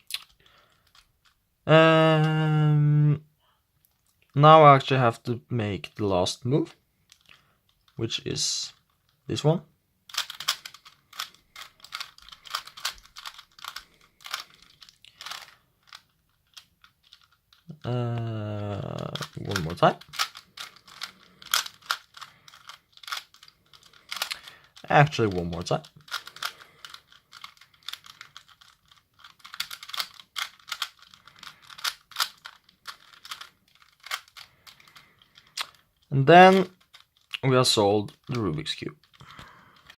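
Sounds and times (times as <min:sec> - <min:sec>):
plastic puzzle cube layers clicking: 0:00.0 - 0:02.5, 0:07.0 - 0:39.9.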